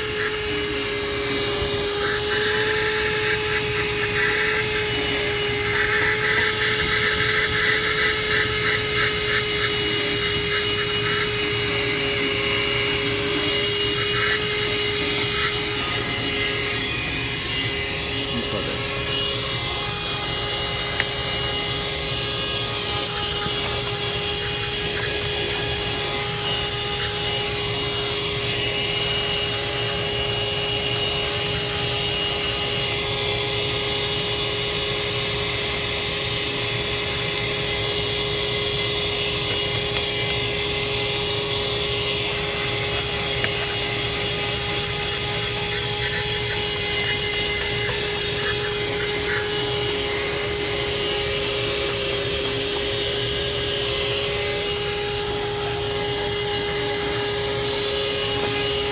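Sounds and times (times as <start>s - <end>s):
car vacuum cleaner running: 0.0s - 58.9s.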